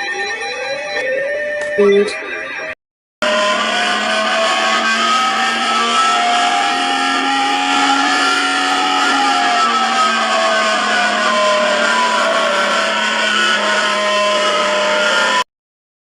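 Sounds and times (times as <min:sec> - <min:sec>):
electronic alert tones drone: 0:00.0 - 0:15.4.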